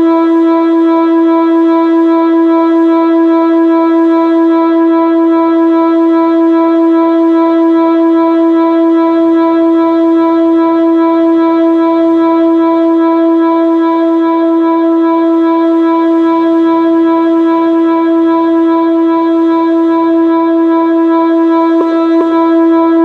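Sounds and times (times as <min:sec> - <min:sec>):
steady warning siren tone: 0:00.0 - 0:23.0.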